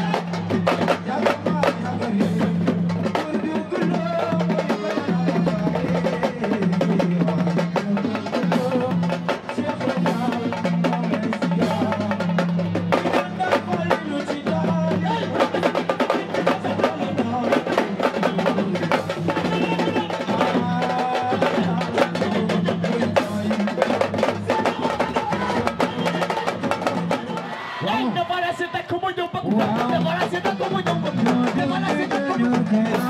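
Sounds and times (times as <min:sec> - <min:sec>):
fast hand drumming: 0:00.0 - 0:27.6, 0:29.3 - 0:33.0.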